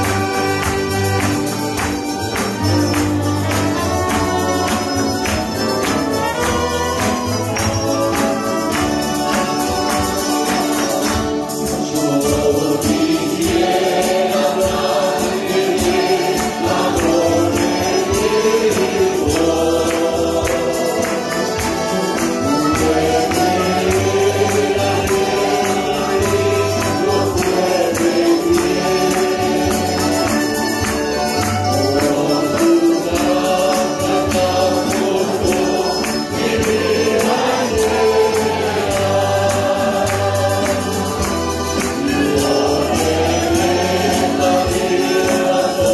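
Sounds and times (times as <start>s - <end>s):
accordion: 0.0s - 45.9s
acoustic guitar: 0.0s - 45.9s
choir singing a hymn: 0.0s - 45.9s
percussive beat: 0.0s - 45.9s.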